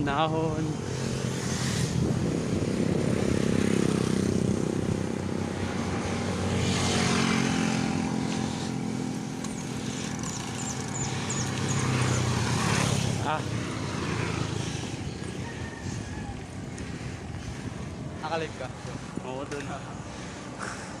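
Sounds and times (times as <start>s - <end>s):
road and wind noise: 0.0s - 21.0s
vehicle engine pulling hard: 0.6s - 21.0s.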